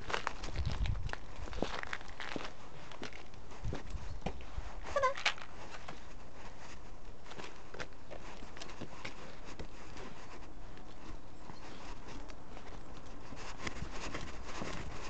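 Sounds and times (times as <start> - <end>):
paws on concrete: 0.0 - 15.0
rustling against camera: 0.0 - 15.0.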